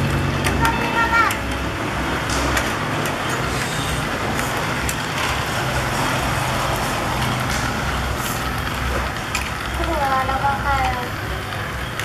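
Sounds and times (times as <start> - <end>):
toy train motor whirring: 0.0 - 12.0
wheels clicking on track: 0.0 - 12.0.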